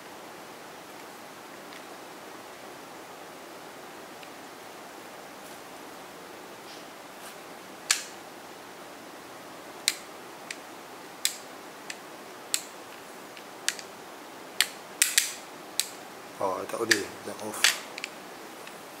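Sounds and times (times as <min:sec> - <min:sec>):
steady low hiss: 0:00.0 - 0:19.0.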